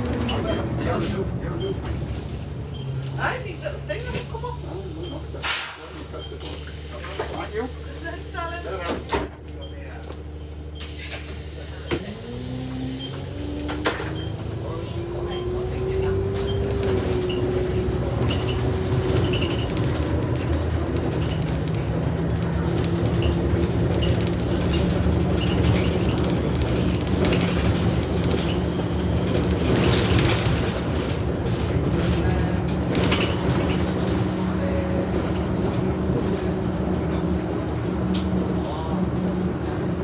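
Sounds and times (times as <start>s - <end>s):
bus engine and road drone: 0.0s - 40.0s.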